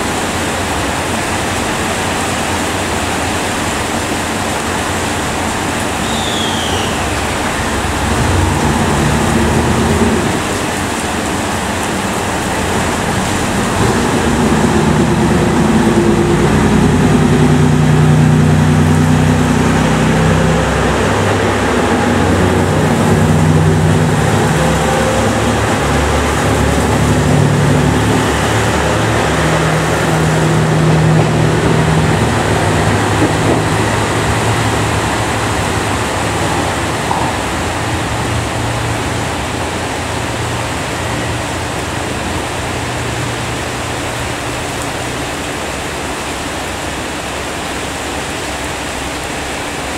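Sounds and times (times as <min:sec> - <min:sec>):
diesel train engines under load: 0:00.0 - 0:49.9
heavy rain hissing: 0:00.0 - 0:49.9.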